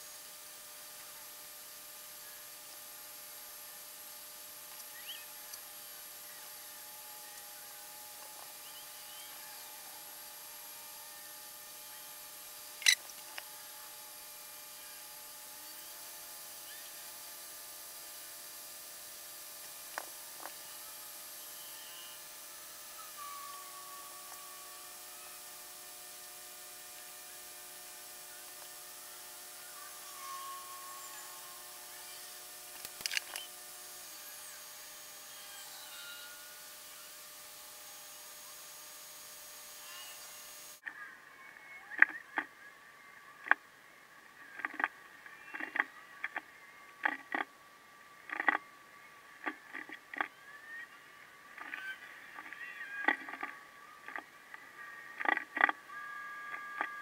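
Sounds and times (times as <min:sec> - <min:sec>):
room tone hum and hiss: 0:00.0 - 0:57.0.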